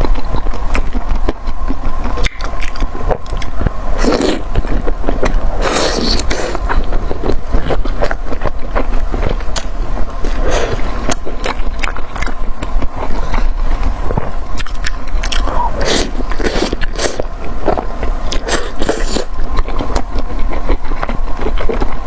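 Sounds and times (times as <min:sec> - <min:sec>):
crunchy chewing and biting: 0:00.0 - 0:22.0
steady low hum: 0:00.0 - 0:22.0.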